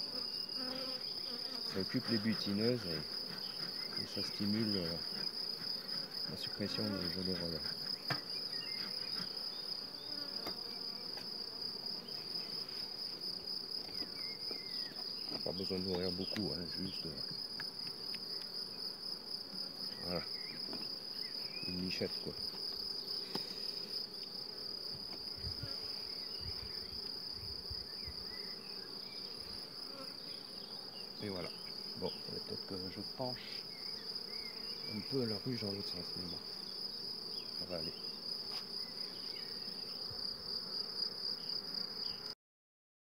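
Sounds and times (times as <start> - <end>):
honeybees humming: 0.0 - 42.3
insects trilling: 0.0 - 42.3.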